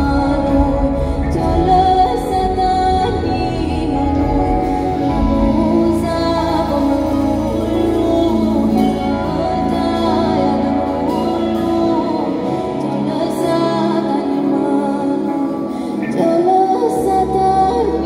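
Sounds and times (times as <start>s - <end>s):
live band music: 0.0s - 18.0s
woman singing: 0.0s - 18.0s.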